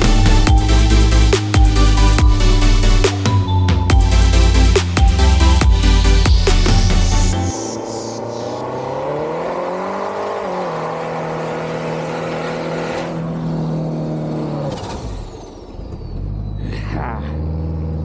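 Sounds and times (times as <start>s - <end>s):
engine revving under load: 0.0s - 18.0s.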